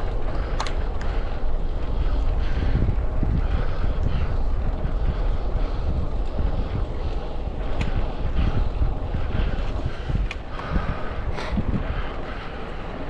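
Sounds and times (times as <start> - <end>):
wind rumbling over microphone: 0.0 - 13.0.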